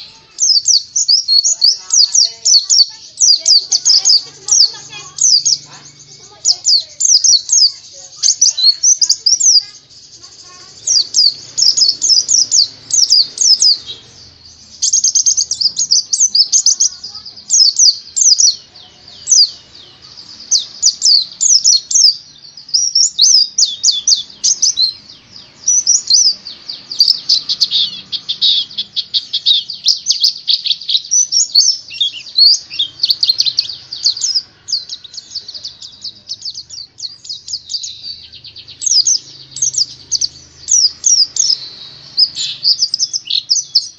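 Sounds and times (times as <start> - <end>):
bird twittering: 0.0 - 43.9.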